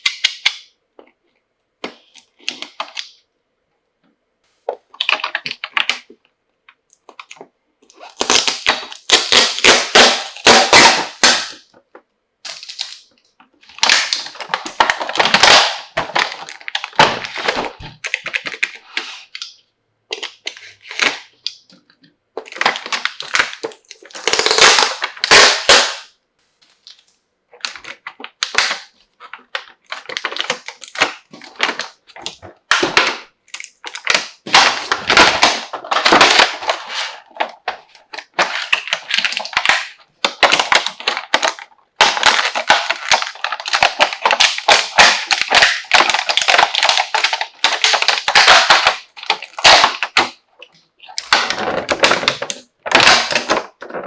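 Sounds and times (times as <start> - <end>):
plastic packaging crinkling: 1.8 - 3.2, 4.6 - 54.0.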